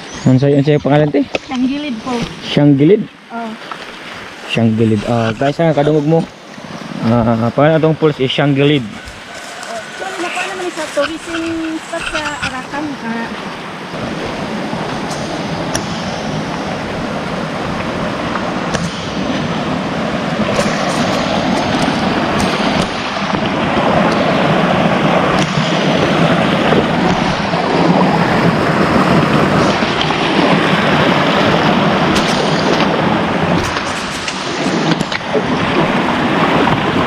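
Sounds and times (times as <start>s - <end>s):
waterfall rushing and splashing: 0.0s - 37.0s.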